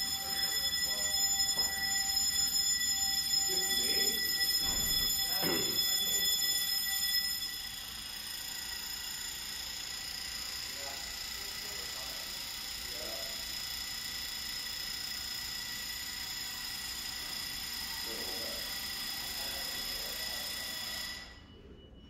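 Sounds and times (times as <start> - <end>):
fire alarm high-pitched tone: 0.0 - 22.0.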